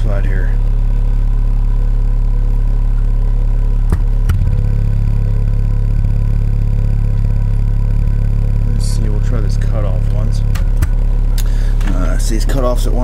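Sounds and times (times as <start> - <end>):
low bass tone: 0.0 - 13.0.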